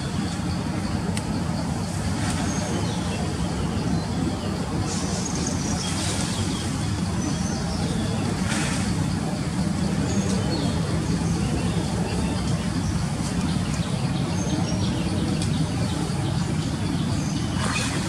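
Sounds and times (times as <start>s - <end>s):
low hum of traffic: 0.0s - 18.0s.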